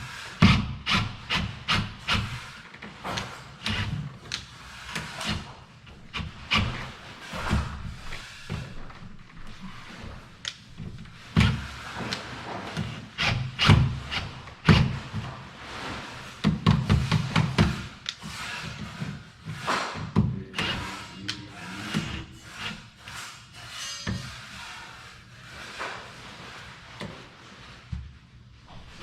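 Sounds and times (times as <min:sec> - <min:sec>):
rubbing sounds: 0:00.0 - 0:29.0.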